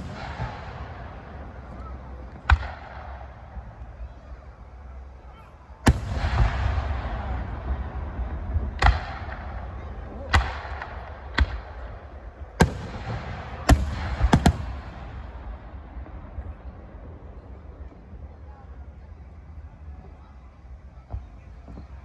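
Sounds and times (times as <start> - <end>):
fireworks bangs: 0.0 - 18.8.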